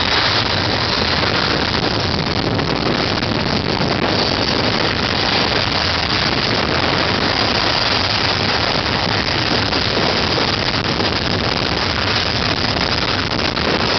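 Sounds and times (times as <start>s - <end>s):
jet engines roaring: 0.0s - 13.9s.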